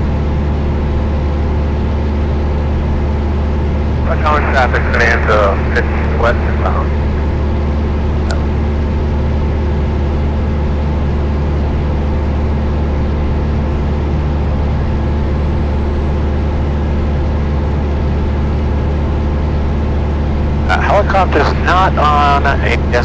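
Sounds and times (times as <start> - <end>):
propeller plane engine drone: 0.0 - 23.0.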